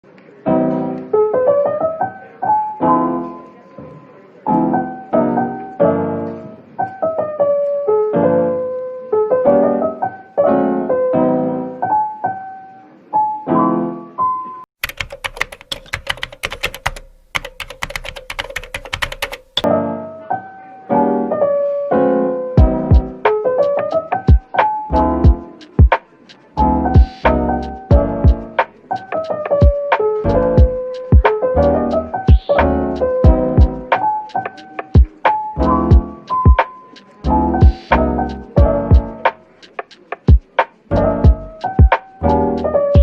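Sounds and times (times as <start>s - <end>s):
gentle solo piano: 0.0s - 14.6s, 17.9s - 43.0s.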